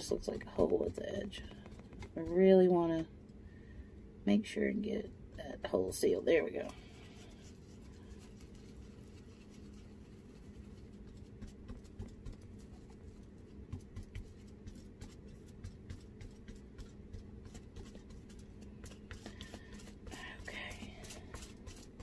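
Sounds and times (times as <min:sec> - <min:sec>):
paintbrush tapping and scratching: 0:00.0 - 0:03.1, 0:05.3 - 0:22.0
low steady hum: 0:00.0 - 0:22.0.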